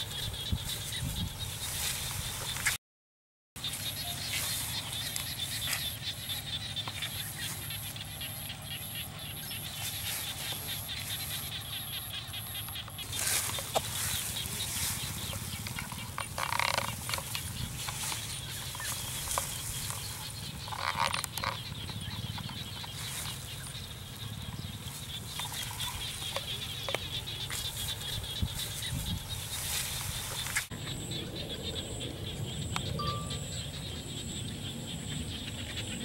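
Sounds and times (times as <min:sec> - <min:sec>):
chirring insect chorus: 0:00.0 - 0:02.7, 0:03.6 - 0:36.0.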